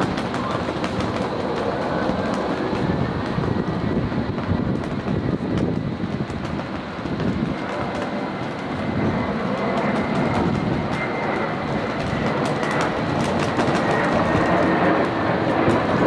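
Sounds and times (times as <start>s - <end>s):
faint high whine: 0.0s - 16.0s
jet engines rushing rumble: 0.0s - 16.0s.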